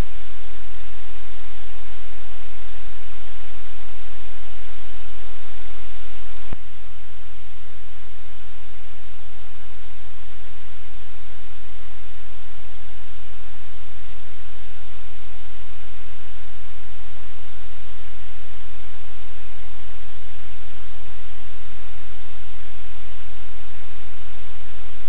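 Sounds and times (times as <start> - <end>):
loud static hiss: 0.0 - 25.0.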